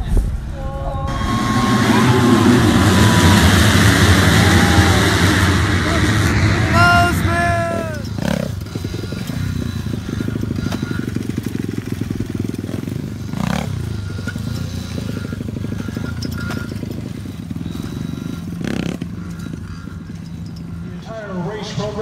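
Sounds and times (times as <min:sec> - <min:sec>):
dirt bike engine running: 0:00.3 - 0:22.0
noisy engine bursts: 0:00.9 - 0:22.0.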